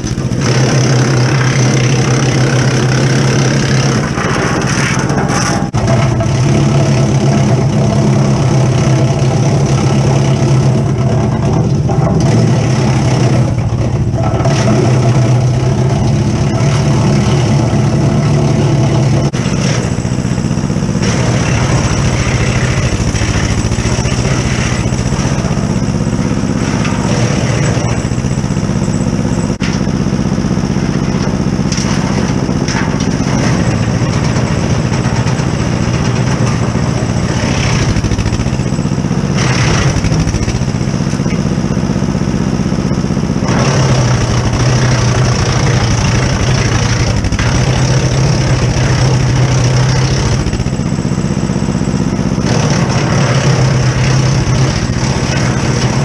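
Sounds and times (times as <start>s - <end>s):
tractor engine running: 0.0s - 56.0s
wood chipper chipping branches: 0.0s - 56.0s.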